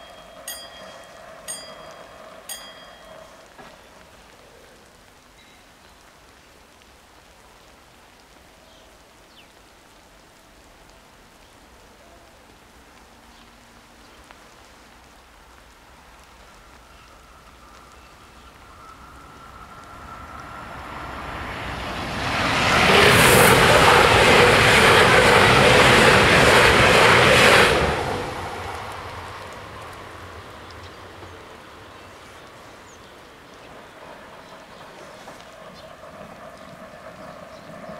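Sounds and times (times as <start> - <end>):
light rain falling: 0.0 - 37.9
train passing with wheel and rail noise: 0.0 - 37.9.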